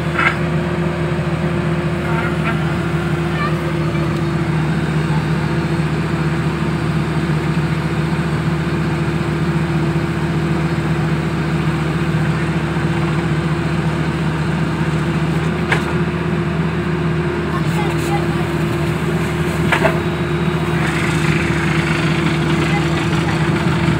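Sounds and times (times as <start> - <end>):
drilling rig engine humming: 0.0 - 23.9.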